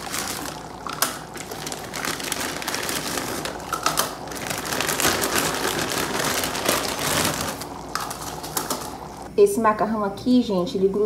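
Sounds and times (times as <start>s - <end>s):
plastic packet crinkling: 0.0s - 9.3s.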